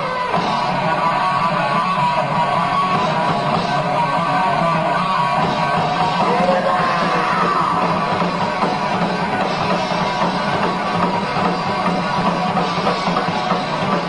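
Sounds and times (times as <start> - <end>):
electric guitar: 0.0 - 14.0
heavy metal band playing: 0.0 - 14.0.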